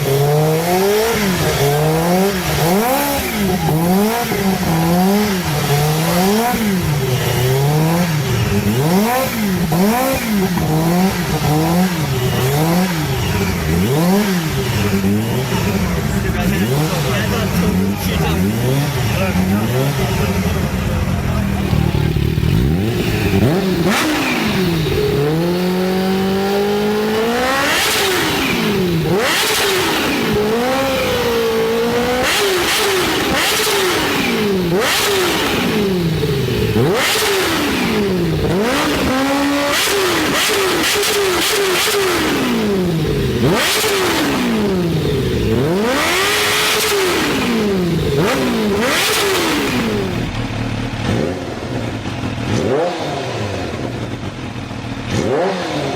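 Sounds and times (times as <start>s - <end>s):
exhaust crackles: 0.0s - 52.8s
motorcycle engine revving hard: 0.0s - 55.9s.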